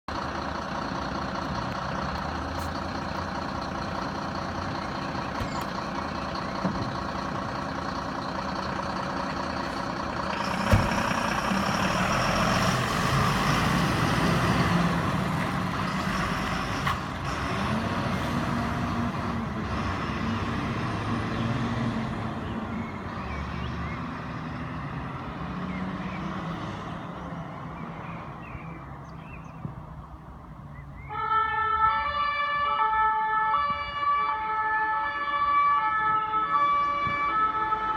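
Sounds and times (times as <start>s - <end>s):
diesel truck engine running: 0.1s - 30.6s.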